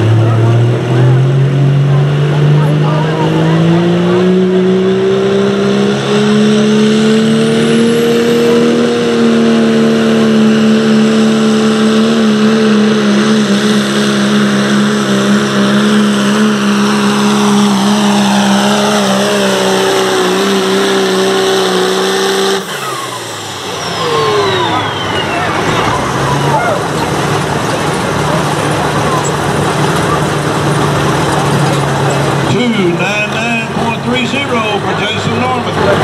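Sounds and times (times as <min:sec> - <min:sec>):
diesel engine at full throttle: 0:00.0 - 0:36.0.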